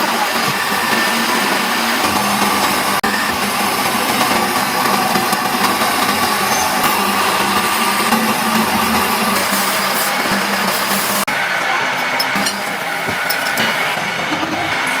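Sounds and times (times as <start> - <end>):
whirring grinding workshop machinery: 0.0 - 15.0.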